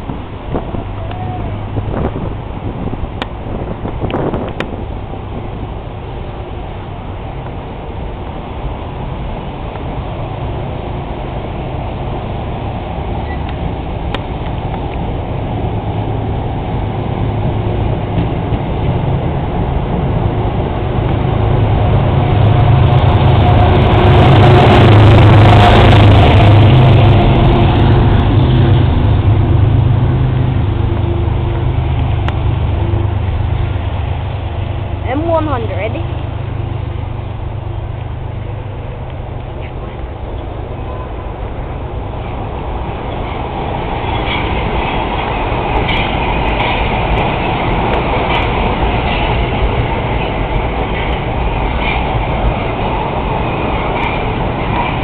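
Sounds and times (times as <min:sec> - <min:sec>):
train coaches rolling past: 0:00.0 - 0:55.0.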